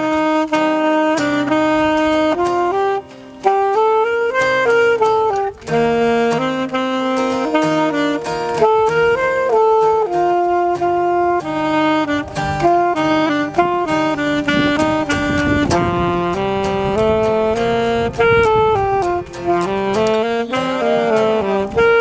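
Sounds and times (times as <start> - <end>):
plucked guitar: 0.0 - 22.0
saxophone melody: 0.0 - 22.0.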